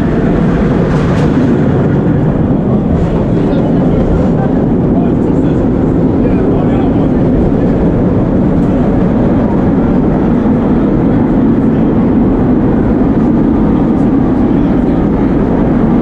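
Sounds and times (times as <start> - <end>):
subway train running: 0.0 - 16.0.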